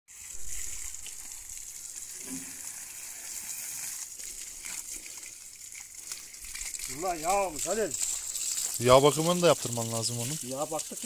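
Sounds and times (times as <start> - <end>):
hose water spraying and splashing: 0.1 - 11.0.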